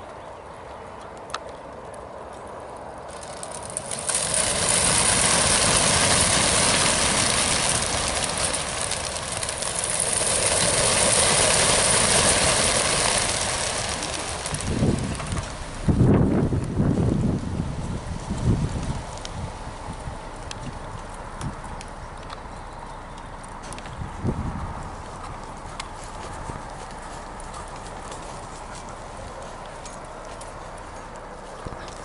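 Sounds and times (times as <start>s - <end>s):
flock wingbeats whirring: 3.1s - 32.0s.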